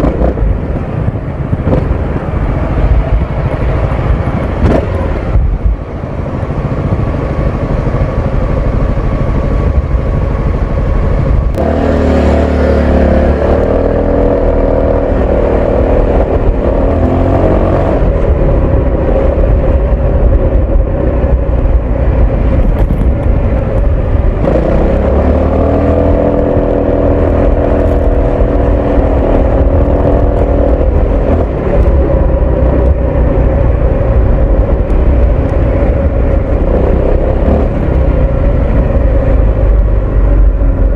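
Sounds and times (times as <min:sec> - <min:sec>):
scooter engine accelerating: 0:00.0 - 0:40.9.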